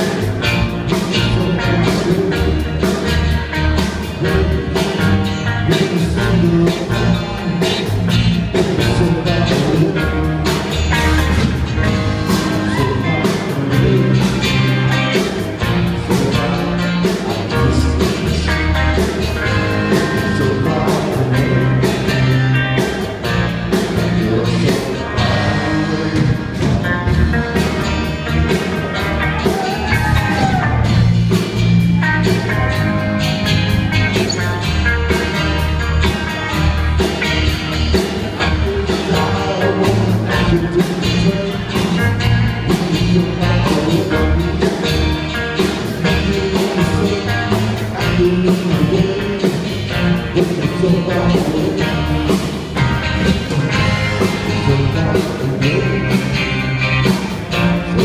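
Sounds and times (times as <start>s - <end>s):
person singing lead vocal: 0.0s - 30.9s, 35.8s - 58.0s
live rock band playing: 0.0s - 58.0s.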